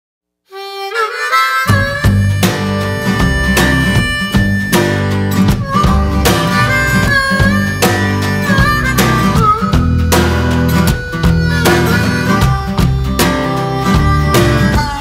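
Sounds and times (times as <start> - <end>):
instrumental country music: 0.5 - 15.0.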